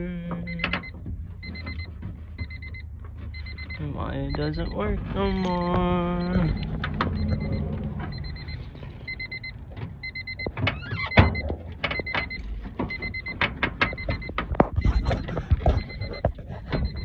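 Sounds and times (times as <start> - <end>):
electronic warning beep: 0.0 - 17.0.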